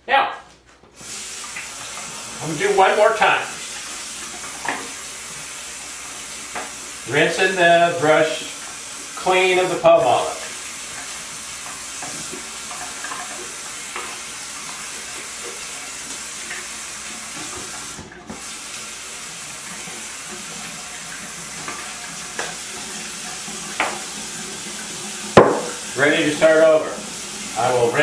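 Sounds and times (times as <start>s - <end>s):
sink tap running: 1.0s - 28.0s.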